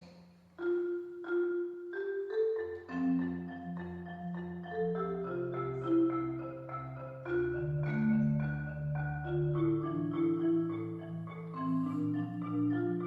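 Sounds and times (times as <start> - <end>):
marimba melody: 0.0 - 13.0.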